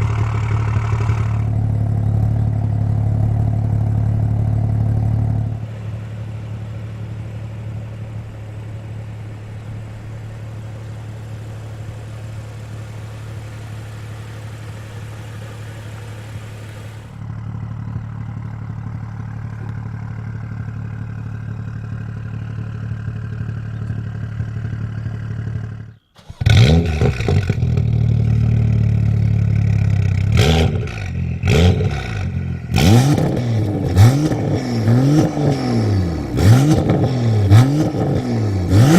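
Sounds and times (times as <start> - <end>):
exhaust pops and crackles: 0.0 - 35.7
car exhaust idling and revving: 0.0 - 38.9.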